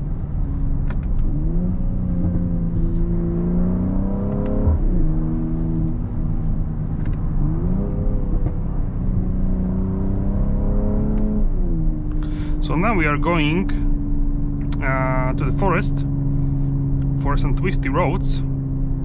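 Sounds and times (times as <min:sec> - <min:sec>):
car engine pulling: 0:00.0 - 0:19.0.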